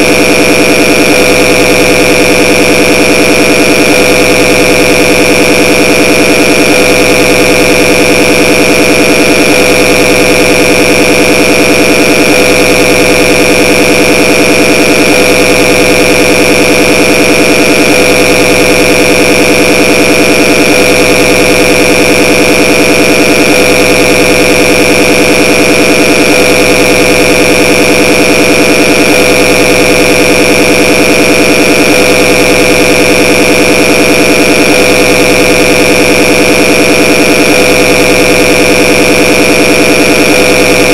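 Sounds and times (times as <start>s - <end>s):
loud high-pitched drone: 0.0s - 40.9s.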